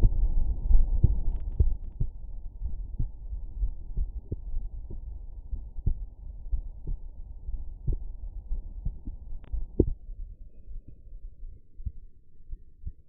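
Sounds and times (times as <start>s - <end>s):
heartbeat through stethoscope: 0.0s - 10.2s, 10.8s - 13.0s
low rumble: 0.0s - 13.0s.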